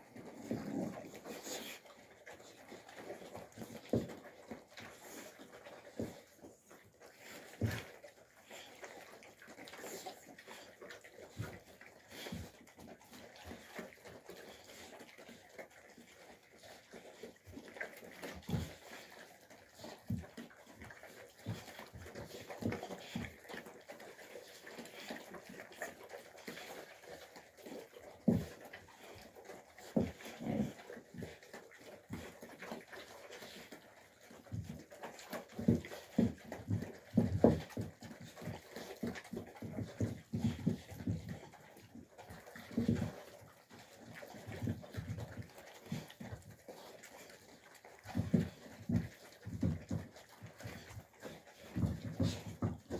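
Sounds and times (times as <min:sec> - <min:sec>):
puppies chewing and lapping: 0:00.0 - 0:52.9.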